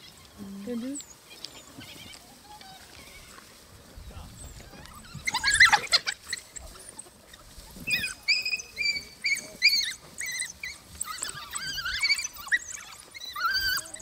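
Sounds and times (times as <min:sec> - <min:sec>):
wild dogs twittering squeals: 0:00.0 - 0:03.6, 0:04.2 - 0:14.0.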